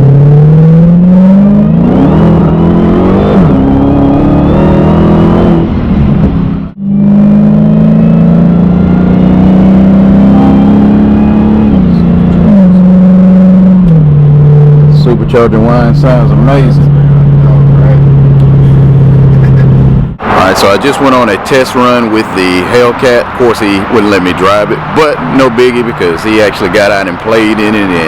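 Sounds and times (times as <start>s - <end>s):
car engine accelerating hard: 0.0s - 28.0s
supercharger whine: 0.0s - 28.0s.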